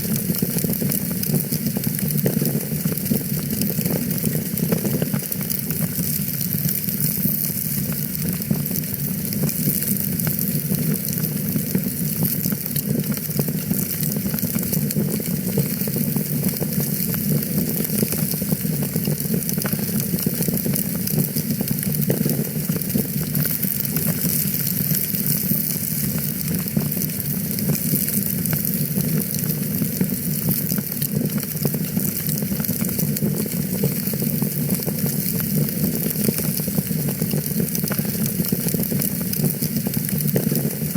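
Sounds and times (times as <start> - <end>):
fire crackling: 0.0 - 40.9.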